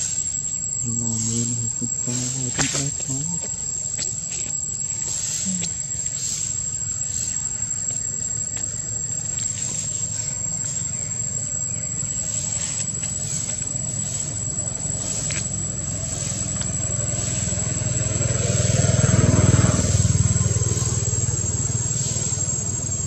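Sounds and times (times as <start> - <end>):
high-pitched insect drone: 0.0 - 23.0
vehicle engine rumble: 0.0 - 23.0.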